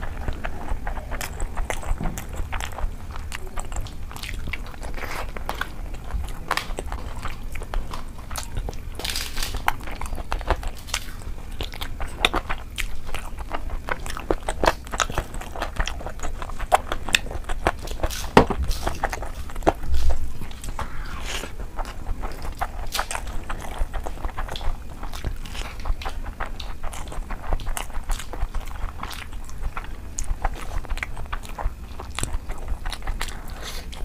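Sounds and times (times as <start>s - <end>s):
chewing and lip smacking: 0.0s - 34.0s
crisp crunches: 3.6s - 34.0s.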